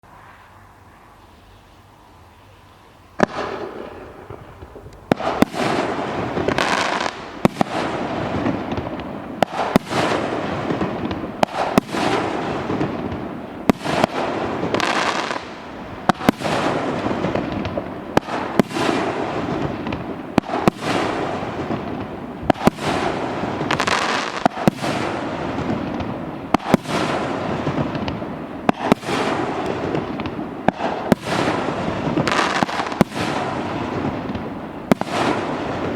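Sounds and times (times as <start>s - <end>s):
fireworks bangs and crackle: 3.2s - 35.9s.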